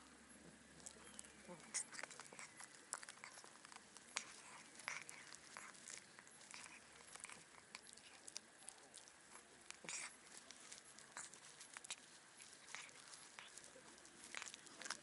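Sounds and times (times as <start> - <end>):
cat chewing and crunching fish: 0.0 - 15.0.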